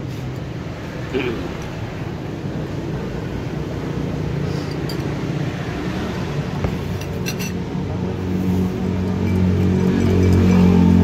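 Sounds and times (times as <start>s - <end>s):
engine: 0.0s - 11.0s
road traffic rumble: 0.0s - 11.0s.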